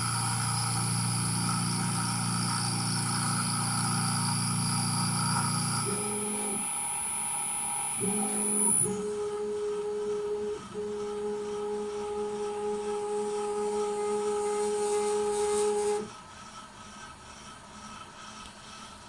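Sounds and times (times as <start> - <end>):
milling machine motor whine: 0.0 - 17.6
faint steady hum: 0.0 - 19.0.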